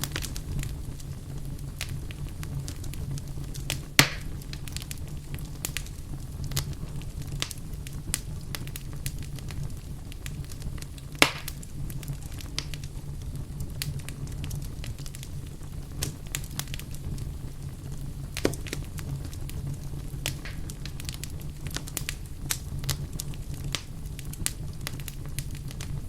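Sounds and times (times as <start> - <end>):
loud fire pops: 0.0 - 26.0
wood fire crackling: 0.0 - 26.0.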